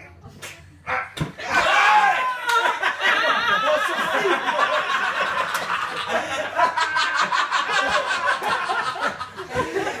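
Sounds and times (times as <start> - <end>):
group of people laughing: 1.4 - 10.0.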